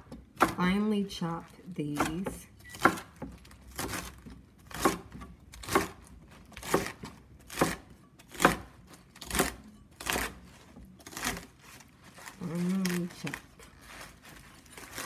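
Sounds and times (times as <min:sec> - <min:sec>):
knife chopping greens on wooden board: 0:00.0 - 0:00.7, 0:01.9 - 0:15.0.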